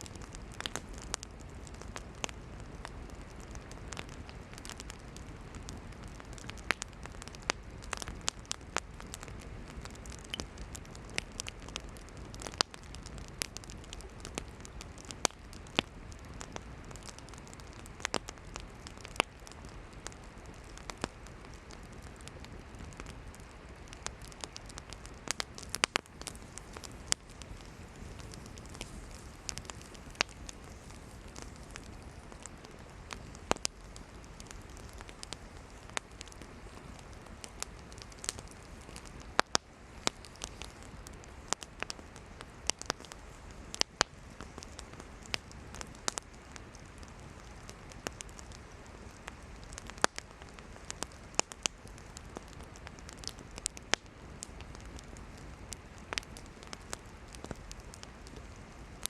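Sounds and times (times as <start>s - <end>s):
hiss of flames: 0.0s - 59.0s
wood crackling and popping: 0.0s - 59.0s.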